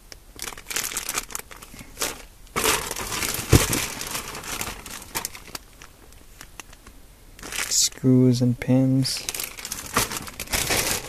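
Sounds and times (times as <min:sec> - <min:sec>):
plastic bags crinkling: 0:00.3 - 0:08.2, 0:08.8 - 0:11.0.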